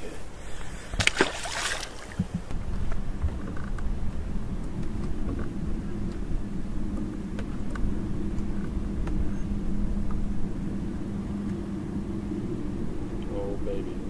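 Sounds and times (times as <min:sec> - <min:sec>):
electric trolling motor humming: 0:00.6 - 0:14.0
low rumble: 0:00.6 - 0:14.0.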